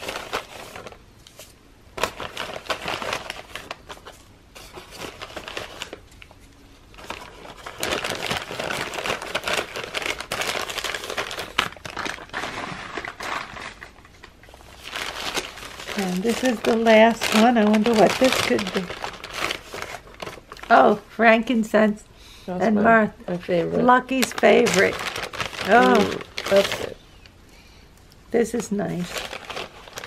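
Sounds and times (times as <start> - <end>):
paper bags crinkling: 0.0 - 21.5, 22.8 - 27.0, 28.4 - 30.0.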